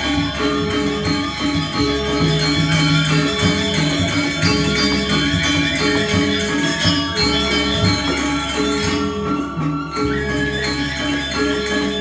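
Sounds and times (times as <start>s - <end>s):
barrel drum: 0.0s - 10.6s
bronze metallophones ringing: 0.0s - 12.0s
small cymbals jangling: 0.0s - 12.0s.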